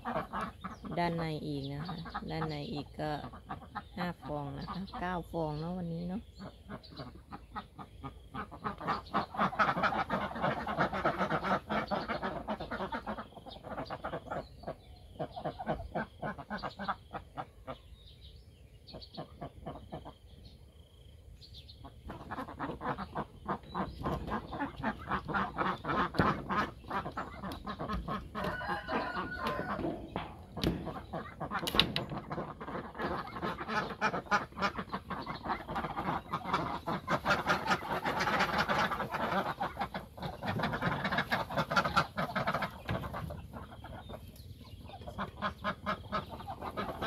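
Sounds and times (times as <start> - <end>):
ducks quacking: 0.0 - 18.0, 18.8 - 20.4, 21.7 - 47.0.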